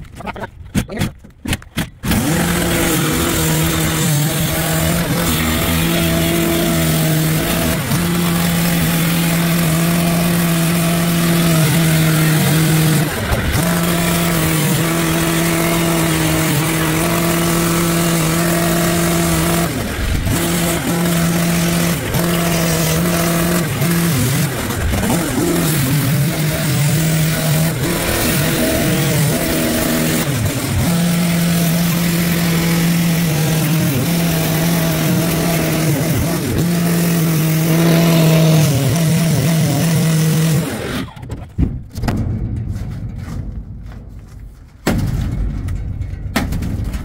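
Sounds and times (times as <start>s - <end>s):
cut-off saw cutting steel: 2.0s - 41.3s.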